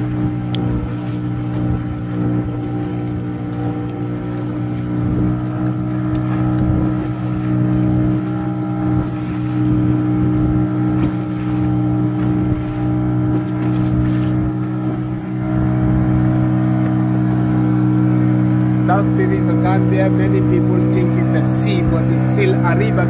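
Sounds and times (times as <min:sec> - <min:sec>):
boat motor humming: 0:00.0 - 0:23.0
water and wind rush: 0:00.0 - 0:23.0.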